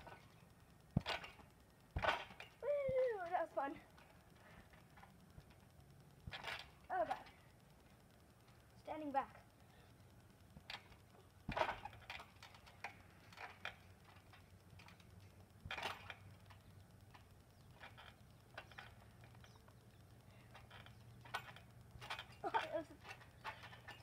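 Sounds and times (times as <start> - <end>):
trampoline thumps and creaks: 0.0 - 24.0.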